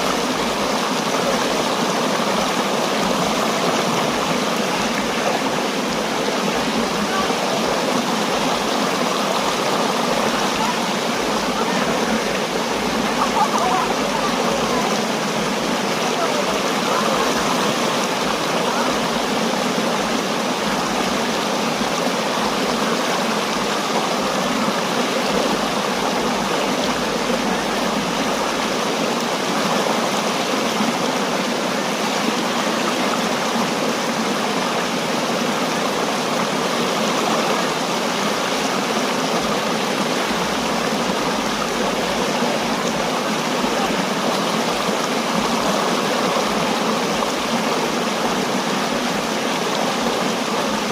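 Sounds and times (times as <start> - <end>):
waterfall rushing over rocks: 0.0 - 50.9.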